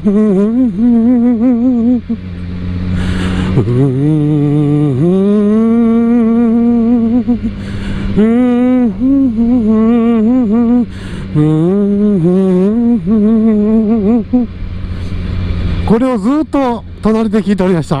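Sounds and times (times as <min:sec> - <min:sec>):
man humming with heavy vibrato: 0:00.0 - 0:15.5
motorcycle engine running: 0:00.0 - 0:18.0.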